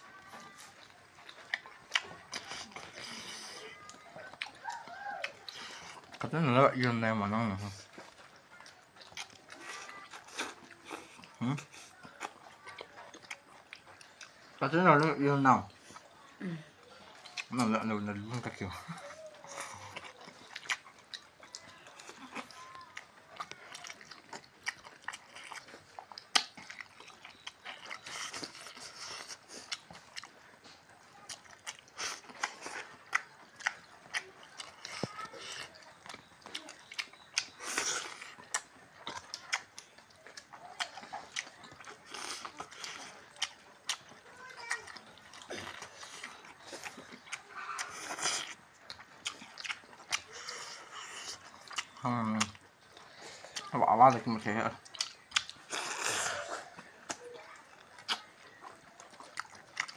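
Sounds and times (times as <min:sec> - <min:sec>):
chewing and smacking mouth sounds: 0:00.0 - 0:59.9.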